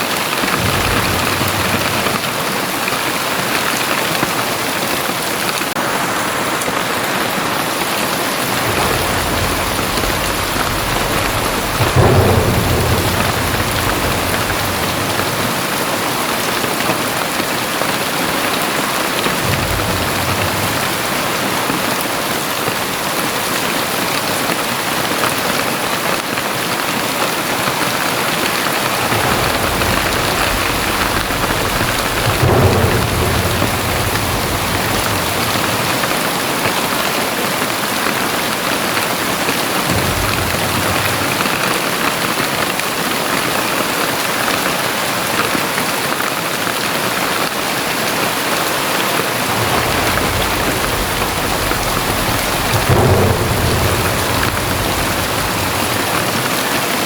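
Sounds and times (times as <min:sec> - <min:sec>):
deep thunder rumbles: 0:00.0 - 0:57.0
heavy rain pouring: 0:00.0 - 0:57.0.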